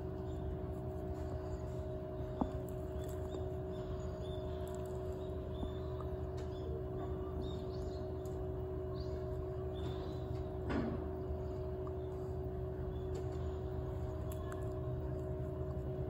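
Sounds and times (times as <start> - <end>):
constant hum: 0.0 - 16.0
distant city traffic rumble: 0.0 - 16.0.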